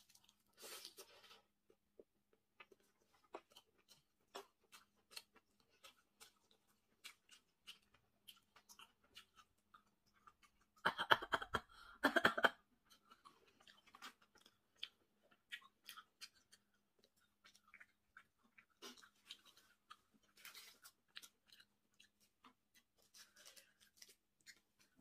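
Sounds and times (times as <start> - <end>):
person chewing: 0.0 - 10.8, 12.7 - 25.0.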